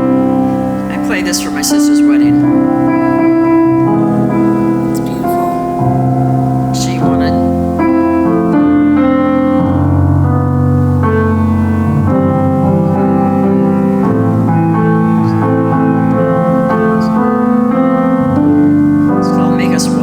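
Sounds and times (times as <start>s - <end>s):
slow solo piano chords: 0.0s - 20.0s.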